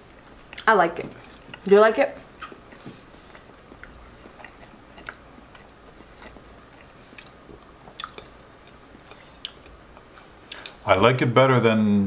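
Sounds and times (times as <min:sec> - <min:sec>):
person chewing soft food: 0:00.0 - 0:10.8.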